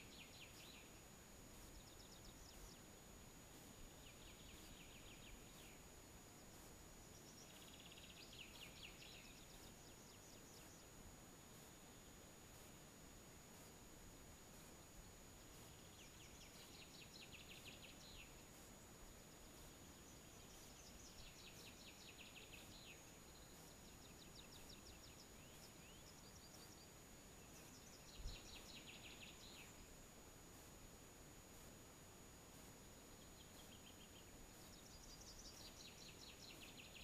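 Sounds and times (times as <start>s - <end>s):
faint steady hiss: 0.0s - 37.0s.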